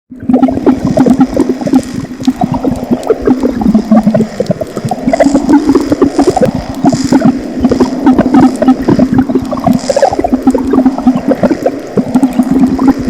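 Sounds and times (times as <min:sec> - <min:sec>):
liquid boiling in a pot: 0:00.3 - 0:12.9.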